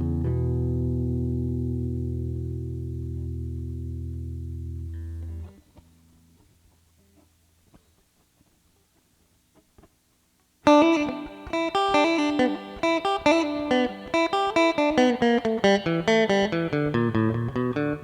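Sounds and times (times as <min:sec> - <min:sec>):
guitar plucked melody: 0:00.0 - 0:07.2, 0:10.6 - 0:18.0.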